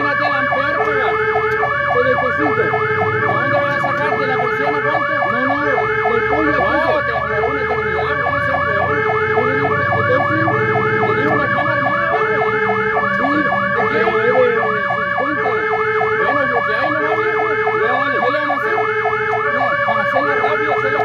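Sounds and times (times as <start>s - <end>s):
fire engine siren yelp: 0.0s - 21.0s
truck engine running: 0.0s - 21.0s
two-tone hi-lo siren: 0.0s - 21.0s.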